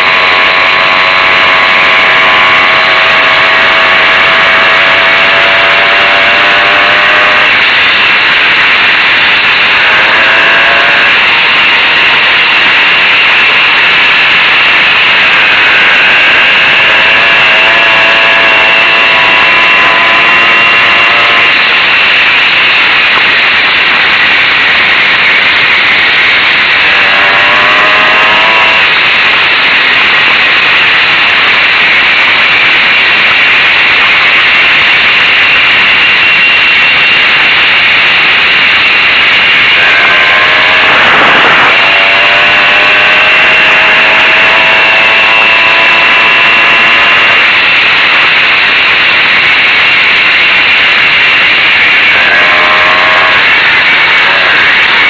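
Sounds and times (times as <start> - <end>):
moped engine running: 0.0 - 35.2, 36.6 - 55.0
loud steady rushing noise: 0.0 - 55.0.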